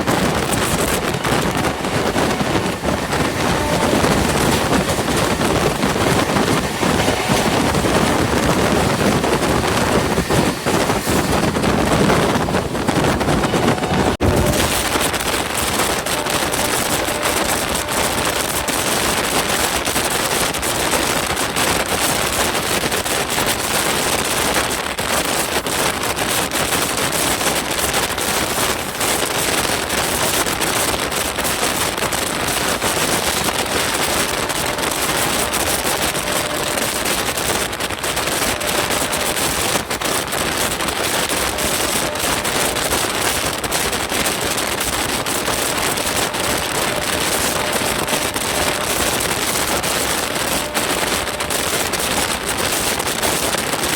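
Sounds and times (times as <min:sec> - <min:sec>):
train rushing on rails: 0:00.0 - 0:53.9
wheels clattering over rail joints: 0:00.0 - 0:53.9.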